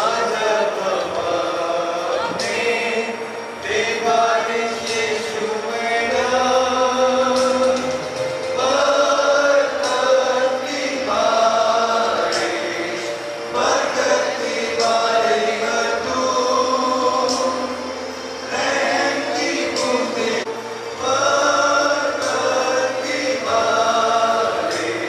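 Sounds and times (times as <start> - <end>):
congregation singing a hymn: 0.0 - 25.0.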